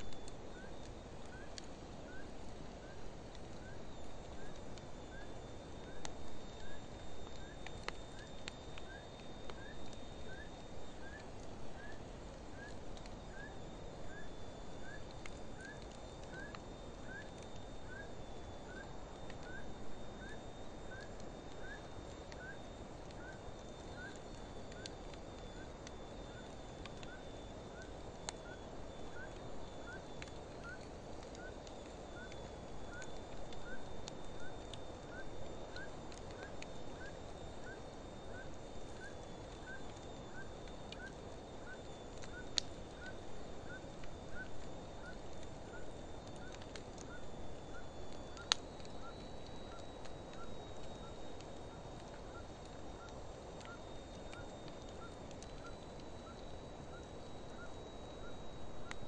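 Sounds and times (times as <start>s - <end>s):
thin steady high tone: 0.0s - 59.0s
wood fire burning: 0.0s - 59.0s.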